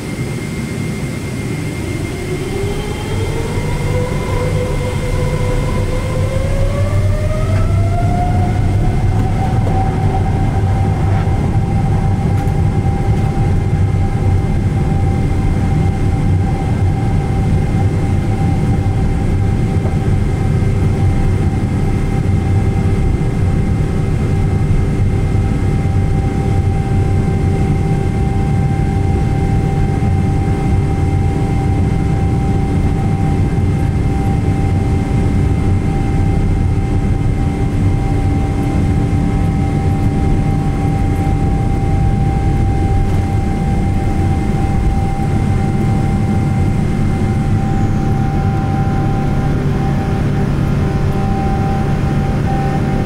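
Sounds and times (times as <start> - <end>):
jet engine whine: 0.0 - 53.0
loud low rumble: 1.2 - 53.0.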